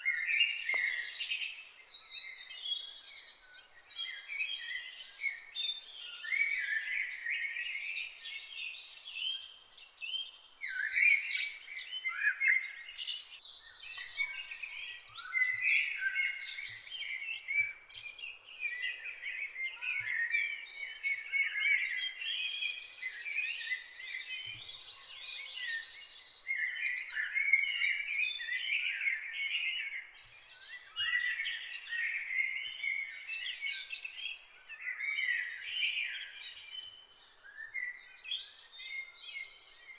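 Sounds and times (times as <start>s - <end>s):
dawn chorus of songbirds: 0.0s - 39.9s.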